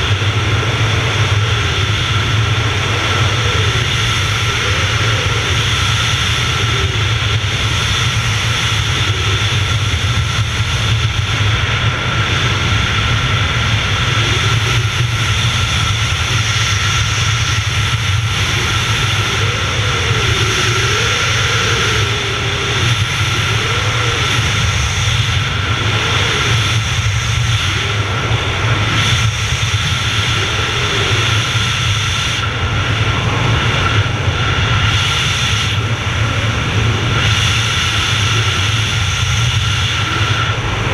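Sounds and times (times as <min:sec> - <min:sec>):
wind roar on microphone: 0:00.0 - 0:40.9.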